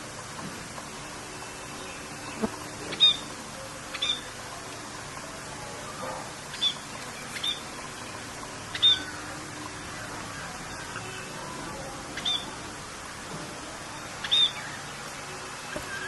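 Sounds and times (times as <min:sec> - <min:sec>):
rain hiss: 0:00.0 - 0:16.0
songbird chirps: 0:00.0 - 0:16.0.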